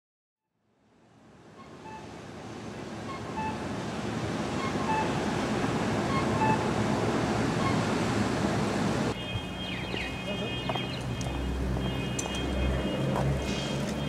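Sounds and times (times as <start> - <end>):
rushing street ambience: 0.9 - 14.0.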